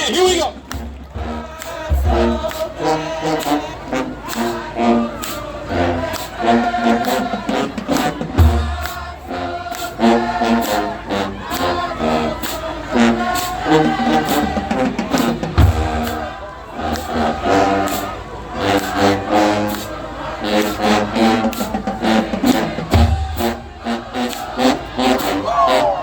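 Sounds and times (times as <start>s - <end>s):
marching band playing: 0.0s - 26.0s
voices singing in chorus: 0.7s - 26.0s.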